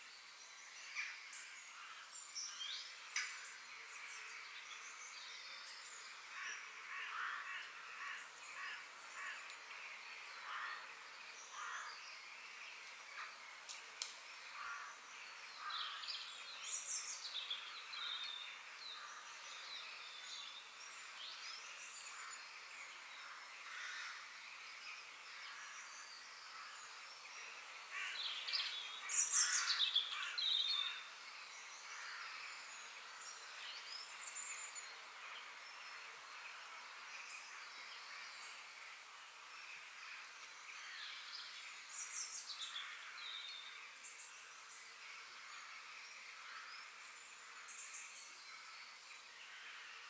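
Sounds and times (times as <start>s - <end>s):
faint background hiss: 0.0s - 50.0s
wild birds chirping and calling: 0.6s - 50.0s.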